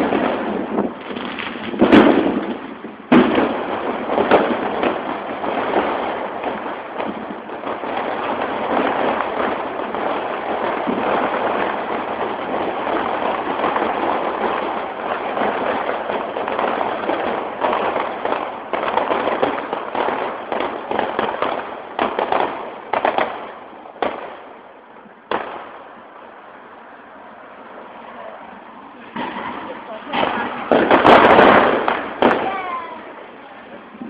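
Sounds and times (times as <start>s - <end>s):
fireworks crackling and banging: 0.0s - 34.0s.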